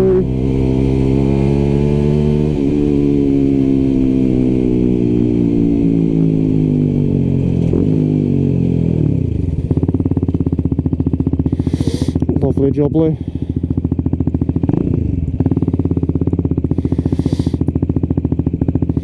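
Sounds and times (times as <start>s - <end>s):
motorcycle engine slowing to idle: 0.0s - 19.0s.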